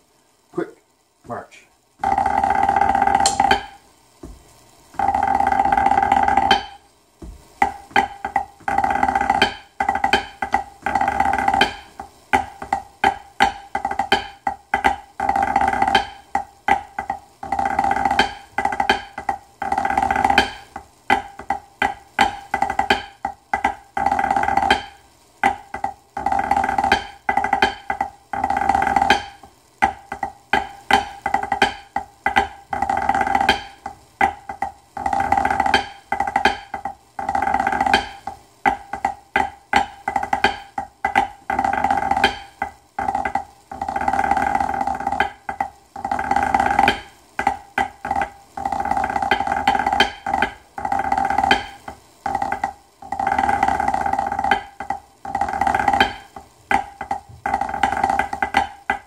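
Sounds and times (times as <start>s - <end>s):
snare drumming on practice pad: 0.5s - 59.0s.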